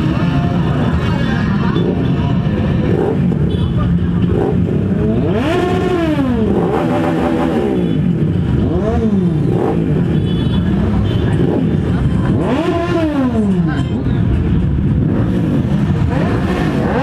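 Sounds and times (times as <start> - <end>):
motorcycle throttle revs: 1.7 - 13.8, 14.8 - 17.0.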